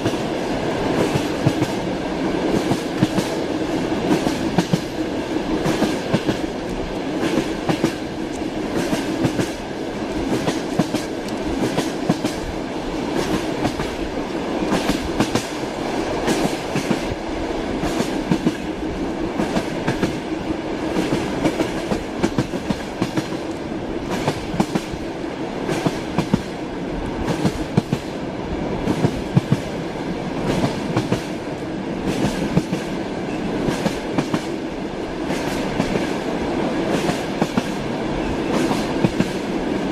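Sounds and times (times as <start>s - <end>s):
train wheels clattering over rails: 0.0s - 28.2s, 28.8s - 39.9s.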